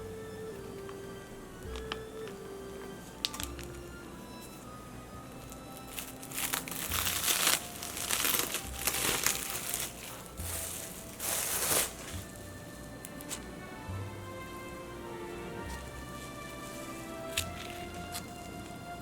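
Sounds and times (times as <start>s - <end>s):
soft background music: 0.0s - 19.0s
crinkling: 0.4s - 13.7s, 14.4s - 19.0s.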